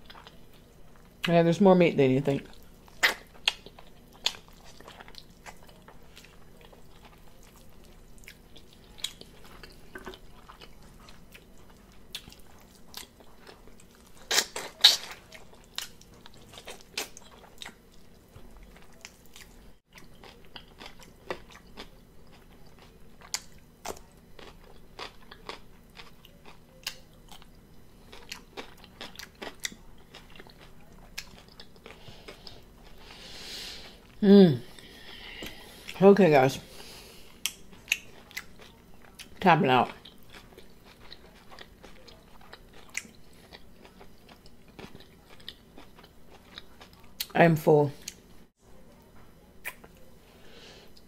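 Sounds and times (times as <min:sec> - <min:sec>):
person chewing meat off bones: 0:00.0 - 0:01.2, 0:02.5 - 0:33.2, 0:36.8 - 0:47.3.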